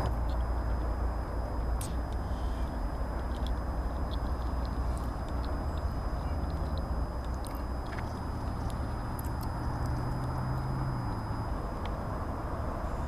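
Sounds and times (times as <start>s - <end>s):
low hum: 0.0s - 13.0s
low rumble: 0.0s - 13.0s.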